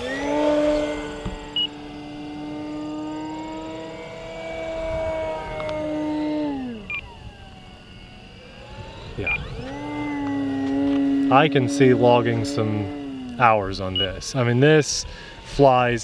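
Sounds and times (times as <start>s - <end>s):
model airplane motor whining: 0.0s - 16.0s.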